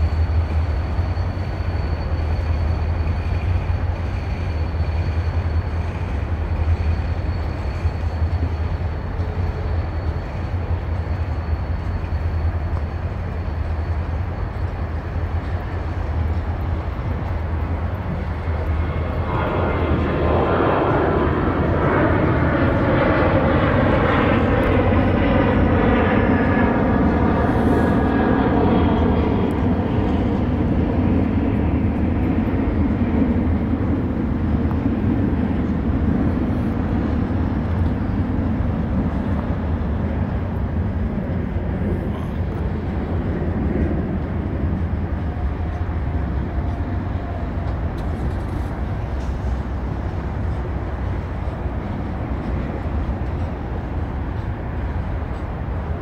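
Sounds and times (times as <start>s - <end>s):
freight train rumbling by: 0.0s - 56.0s
jet airliner takeoff roar: 0.0s - 56.0s.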